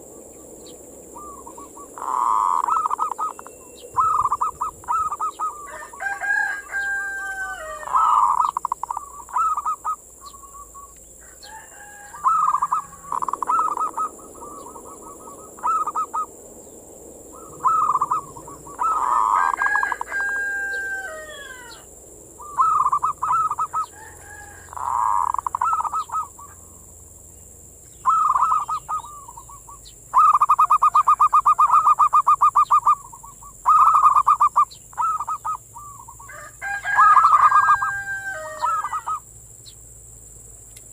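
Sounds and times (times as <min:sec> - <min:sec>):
dove cooing: 0:00.0 - 0:26.8, 0:27.9 - 0:39.3
rapid pulsed bird notes: 0:00.0 - 0:40.9
steady high hiss: 0:00.0 - 0:40.9.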